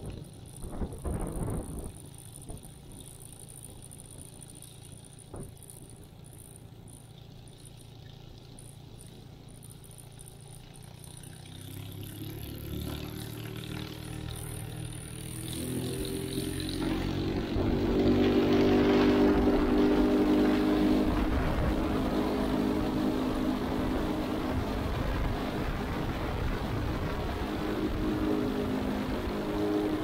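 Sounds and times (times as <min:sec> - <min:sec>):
light aircraft engine and propeller: 0:00.0 - 0:30.0.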